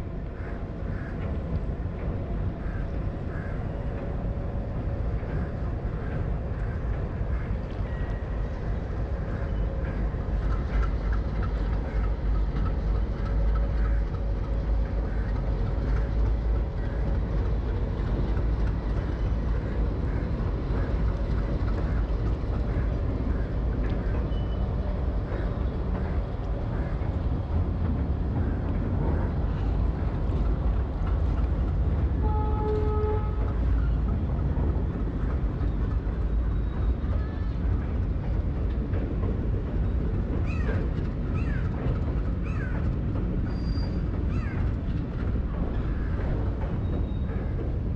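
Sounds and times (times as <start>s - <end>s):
coaches rolling on rails: 0.0s - 47.9s
diesel locomotive engine rumbling: 0.0s - 47.9s.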